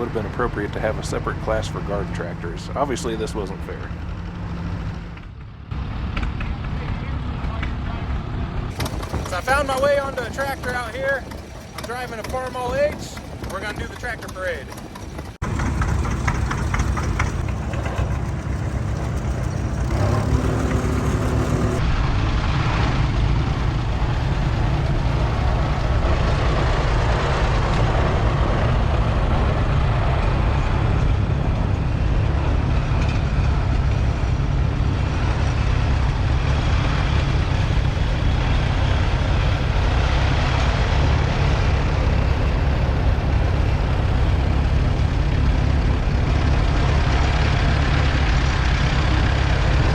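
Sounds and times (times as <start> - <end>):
tractor engine running: 0.0 - 21.9, 22.6 - 49.9
rush of noise: 0.0 - 49.9.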